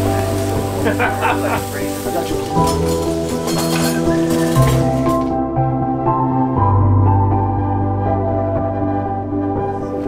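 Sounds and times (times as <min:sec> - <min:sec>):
ambient music with held chords: 0:00.0 - 0:10.0.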